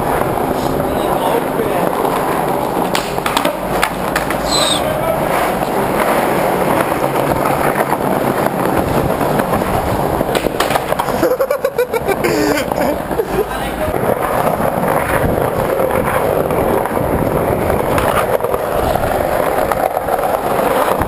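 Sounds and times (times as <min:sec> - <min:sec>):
skateboard clacks: 0:00.0 - 0:21.0
skateboard wheels rolling on concrete: 0:00.0 - 0:21.0.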